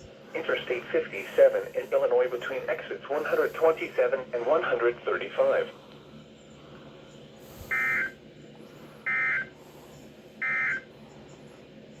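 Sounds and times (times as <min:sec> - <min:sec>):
faint radio hiss: 0:00.0 - 0:12.0.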